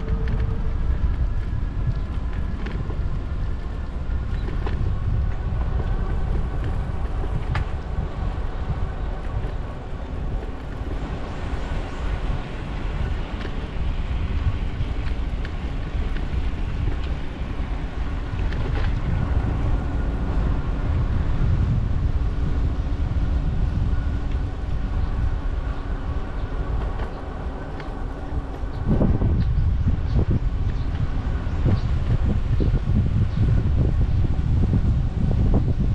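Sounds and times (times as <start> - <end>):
faint steady hum: 0.0 - 35.9
wind rumbling on microphone: 0.0 - 35.9.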